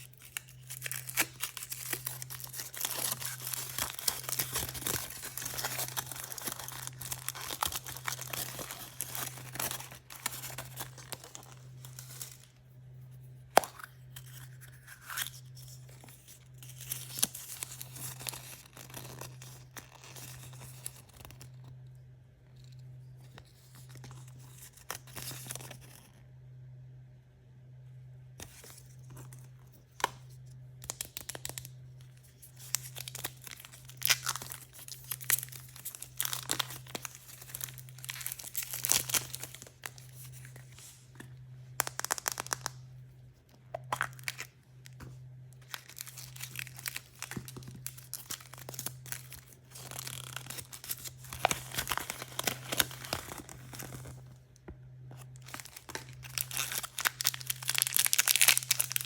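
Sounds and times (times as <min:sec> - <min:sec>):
wrappers tearing and crinkling: 0:00.0 - 0:12.6, 0:13.8 - 0:21.6, 0:23.5 - 0:26.0, 0:30.8 - 0:41.1, 0:41.8 - 0:42.8, 0:43.8 - 0:44.6, 0:45.5 - 0:54.4, 0:55.2 - 0:59.0
steady low hum: 0:00.0 - 0:59.0.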